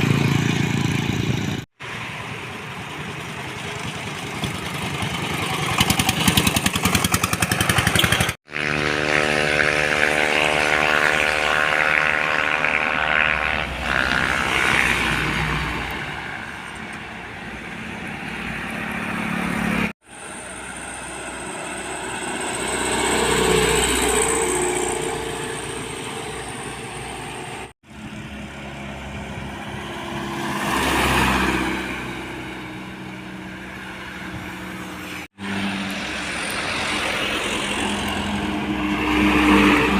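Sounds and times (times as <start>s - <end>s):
vehicles passing: 0.0s - 39.9s.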